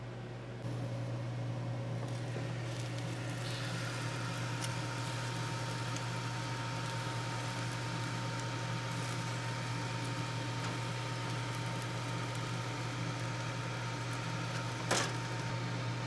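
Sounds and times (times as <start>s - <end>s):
appliance motor humming: 0.6s - 16.0s.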